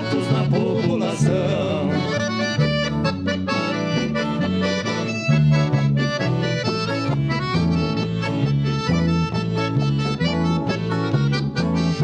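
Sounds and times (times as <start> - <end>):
bass and rhythm backing: 0.0 - 12.0
button accordion dance music: 0.0 - 12.0.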